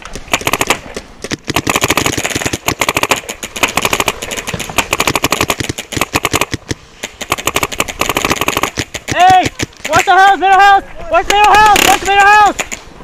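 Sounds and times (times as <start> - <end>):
paintball markers firing: 0.0 - 10.3, 11.2 - 12.9.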